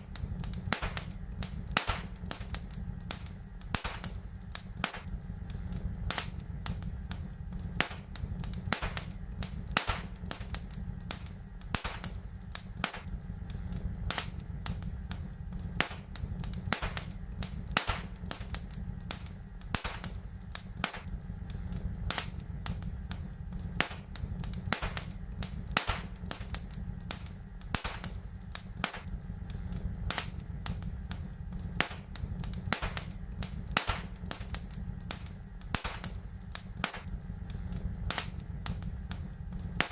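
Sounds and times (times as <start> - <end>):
low fire rumble: 0.0 - 39.9
wood fire crackling: 0.0 - 39.9.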